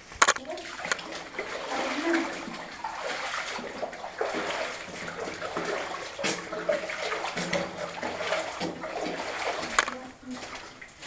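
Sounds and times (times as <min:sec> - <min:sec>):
footsteps splashing through water: 0:00.0 - 0:11.0.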